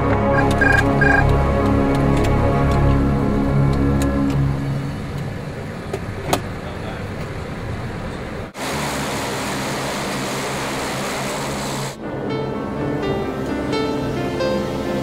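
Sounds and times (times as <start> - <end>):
rushing engine noise: 0.0 - 15.0
turboprop engines humming: 0.0 - 15.0.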